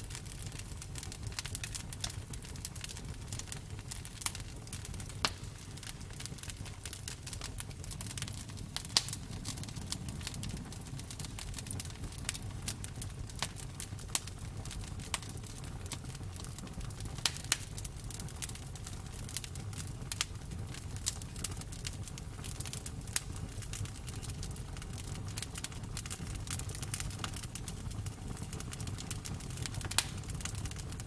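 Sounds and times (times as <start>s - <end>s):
burning wood crackling and popping: 0.0s - 31.0s
low rumble of flames: 0.0s - 31.0s.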